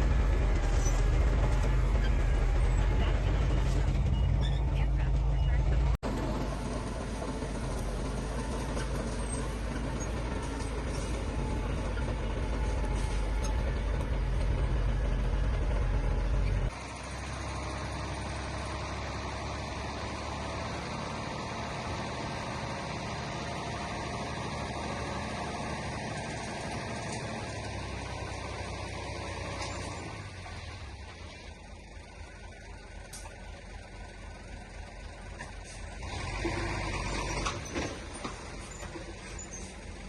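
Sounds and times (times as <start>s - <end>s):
heavy diesel machinery running: 0.0s - 40.0s.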